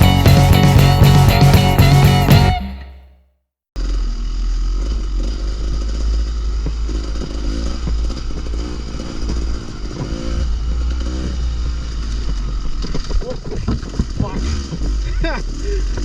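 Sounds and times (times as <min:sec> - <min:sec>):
dirt bike engine revving: 0:00.0 - 0:02.8, 0:03.8 - 0:16.0.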